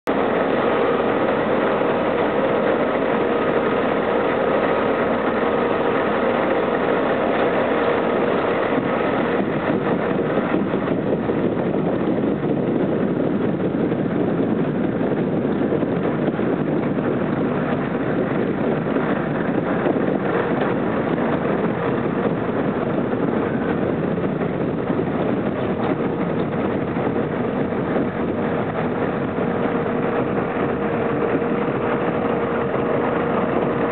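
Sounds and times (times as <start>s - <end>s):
harvester engine drone: 0.0s - 33.9s.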